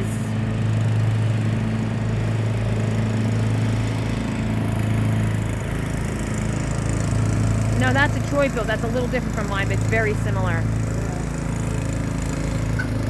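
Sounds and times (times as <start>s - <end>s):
lawn tractor engine humming: 0.0s - 13.0s.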